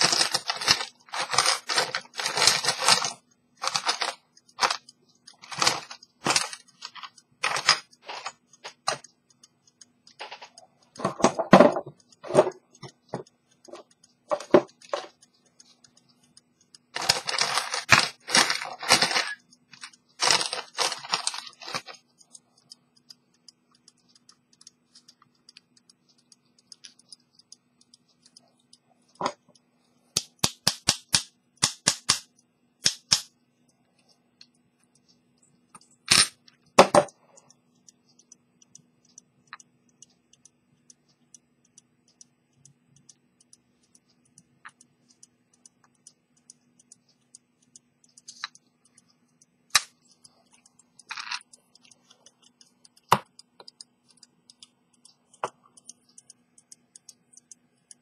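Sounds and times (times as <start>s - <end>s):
sharp clicks and taps: 0.0s - 58.0s.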